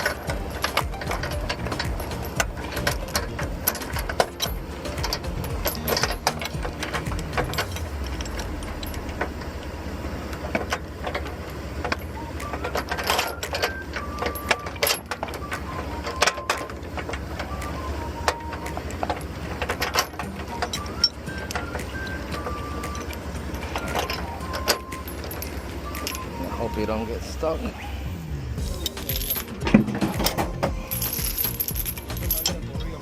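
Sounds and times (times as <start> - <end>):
clicks and clanks: 0.0 - 26.9, 28.6 - 33.0
held notes changing pitch: 0.0 - 33.0
vehicle engine idling: 0.0 - 33.0.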